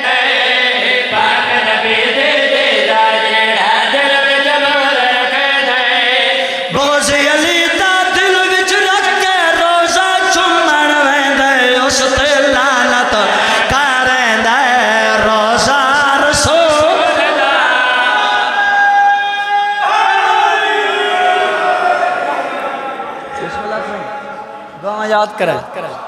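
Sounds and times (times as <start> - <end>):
men singing over pa system: 0.0 - 22.8.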